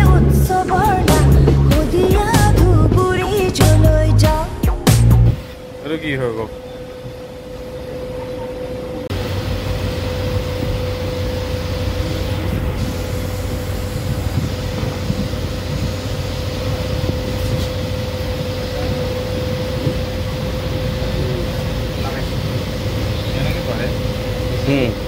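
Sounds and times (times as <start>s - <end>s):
train wheels rumbling on track: 0.0s - 4.4s, 5.4s - 25.0s
steady hum: 0.0s - 25.0s.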